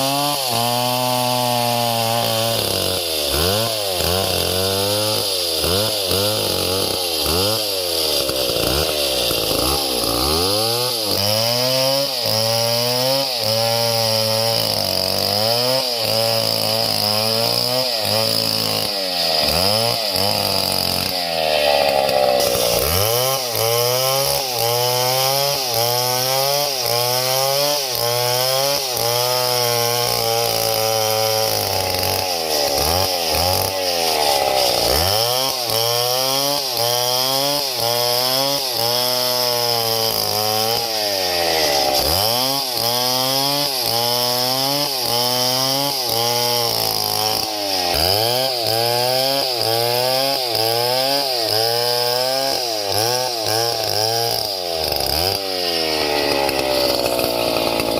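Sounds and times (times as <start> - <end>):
small chainsaw running: 0.0 - 57.9.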